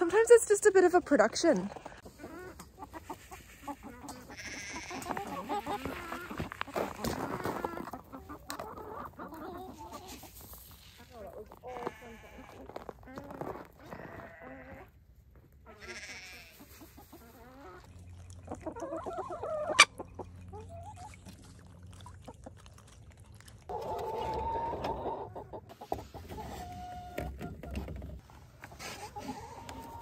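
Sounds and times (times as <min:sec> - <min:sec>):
hens clucking and calling: 0:01.6 - 0:15.1, 0:15.7 - 0:21.2, 0:23.7 - 0:30.0.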